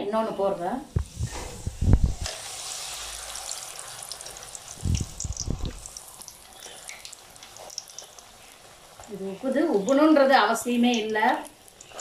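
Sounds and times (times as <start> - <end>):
deep-frying sizzle and crackle: 0.6 - 12.0.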